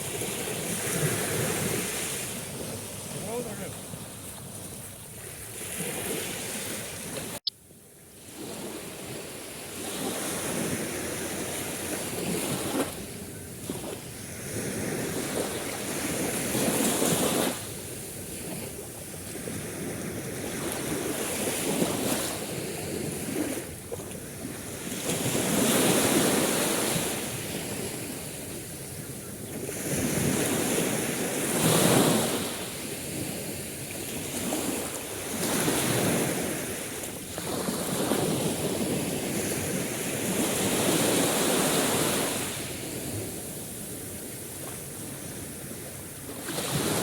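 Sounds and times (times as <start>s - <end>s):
sea waves washing on shore: 0.0s - 7.5s, 8.2s - 47.0s.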